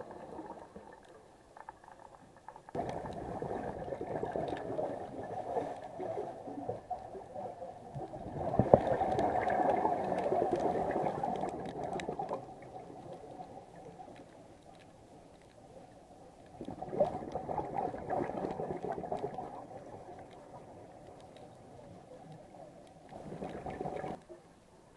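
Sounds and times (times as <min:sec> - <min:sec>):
underwater exhaust bubbles: 0:00.0 - 0:24.9.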